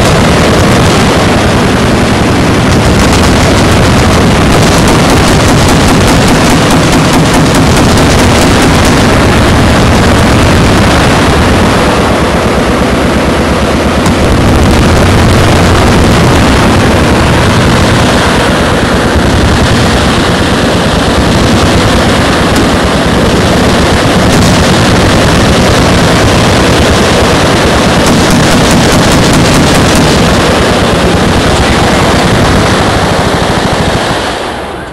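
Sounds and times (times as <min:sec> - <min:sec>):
machine guns firing: 0:00.0 - 0:34.1
low rumble: 0:00.0 - 0:34.9.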